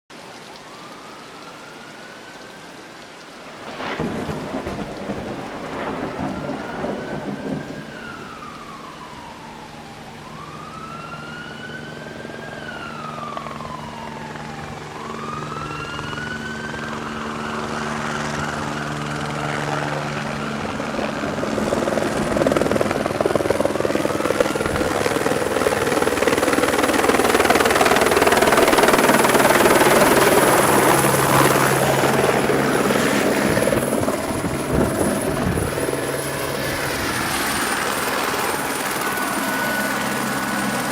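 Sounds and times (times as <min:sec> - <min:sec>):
emergency vehicle siren wailing: 0:00.4 - 0:40.9
high turbine whine: 0:03.5 - 0:40.9
helicopter rotor and engine: 0:05.7 - 0:40.9.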